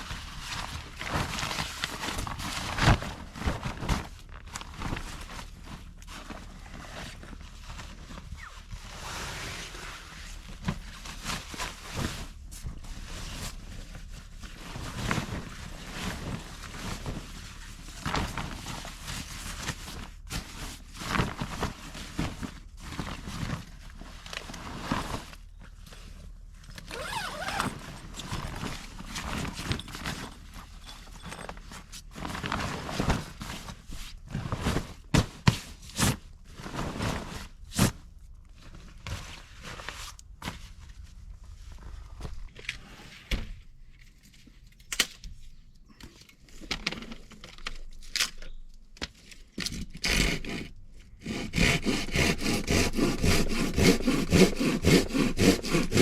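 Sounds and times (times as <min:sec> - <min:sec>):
rustling and crunching: 0:00.0 - 0:50.0.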